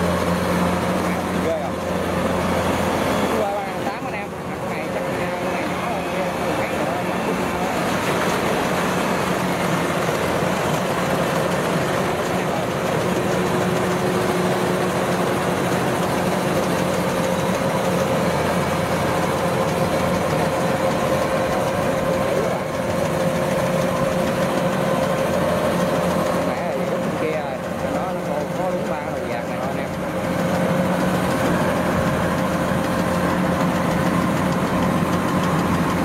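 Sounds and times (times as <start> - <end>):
combine harvester running: 0.0 - 36.0.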